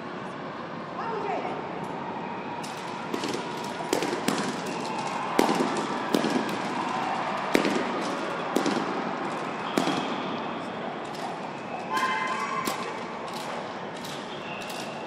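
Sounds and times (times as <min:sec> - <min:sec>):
sharp echoing bangs: 0:02.6 - 0:15.0.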